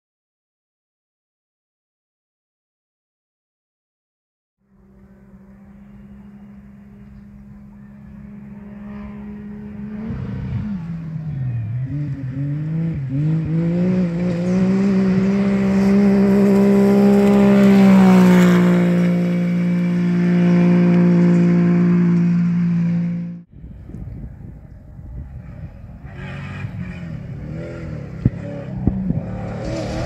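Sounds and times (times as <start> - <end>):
buggy engine racing: 4.6 - 30.0.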